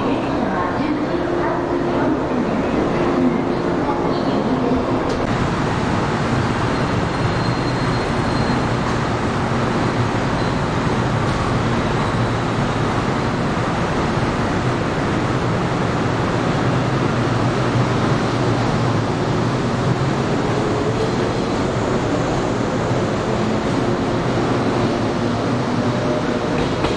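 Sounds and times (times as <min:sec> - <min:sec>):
electric train rumbling past: 0:00.0 - 0:26.9.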